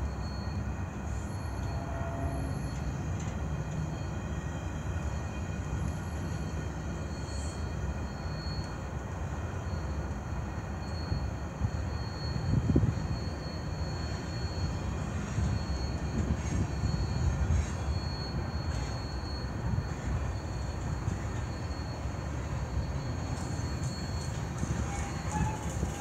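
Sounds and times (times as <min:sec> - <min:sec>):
faint high squeal: 0:00.0 - 0:26.0
train wheels rumbling on rails: 0:00.0 - 0:26.0.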